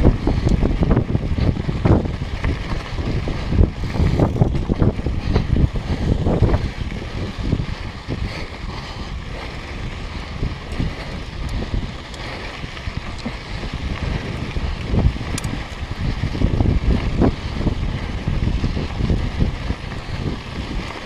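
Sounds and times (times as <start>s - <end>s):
bike rattling and knocking: 0.0s - 21.0s
tyres rolling over gravel: 0.0s - 21.0s
wind rushing over microphone: 0.0s - 21.0s.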